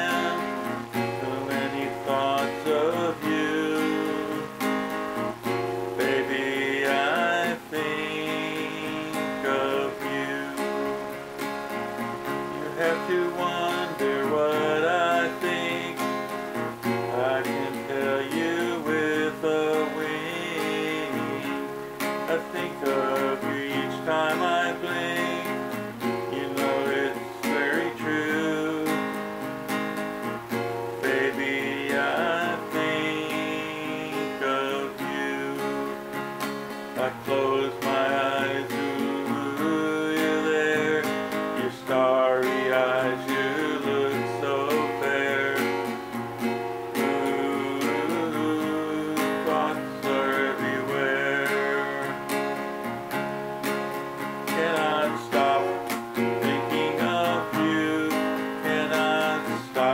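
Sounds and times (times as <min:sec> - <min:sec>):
man singing: 0:00.0 - 0:52.8, 0:54.2 - 0:59.9
acoustic guitar strumming: 0:00.0 - 0:59.9.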